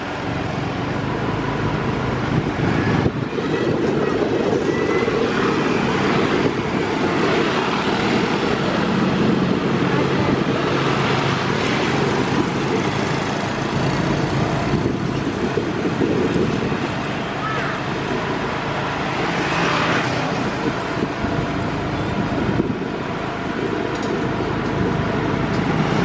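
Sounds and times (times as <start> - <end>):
vehicle running rumble: 0.0 - 26.0.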